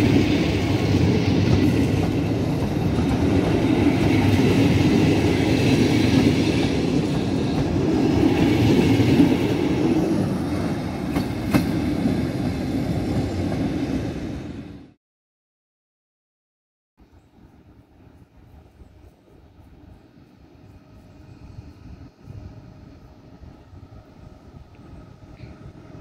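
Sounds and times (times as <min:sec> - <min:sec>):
train wheels rumbling on rails: 0:00.0 - 0:15.0, 0:17.4 - 0:26.0.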